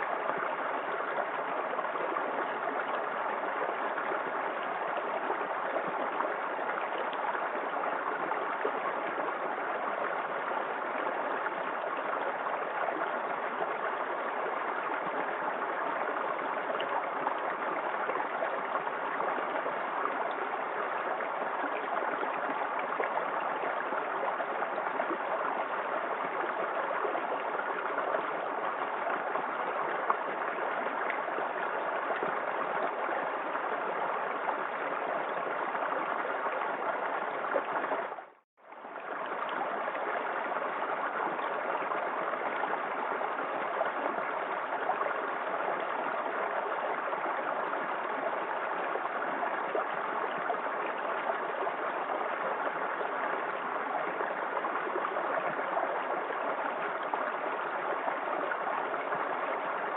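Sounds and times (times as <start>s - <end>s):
water splashing and rushing: 0.0s - 59.9s.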